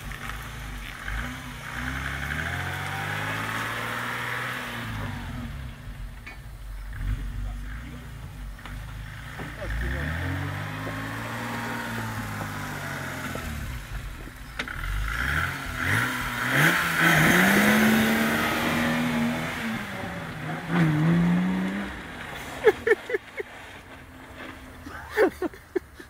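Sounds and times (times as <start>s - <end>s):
tractor engine revving: 0.0s - 26.0s.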